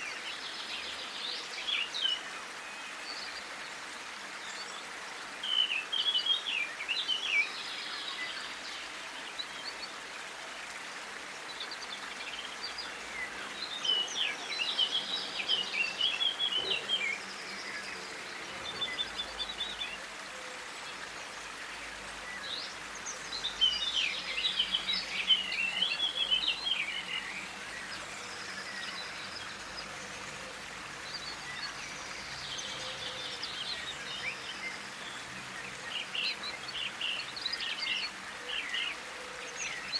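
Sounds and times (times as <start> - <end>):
songbird twittering song: 0.0 - 10.0, 11.3 - 39.9.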